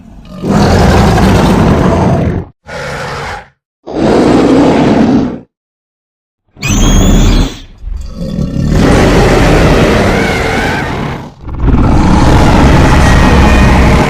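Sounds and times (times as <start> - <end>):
deep rumbling dinosaur roars: 0.2 - 5.5, 7.9 - 14.0.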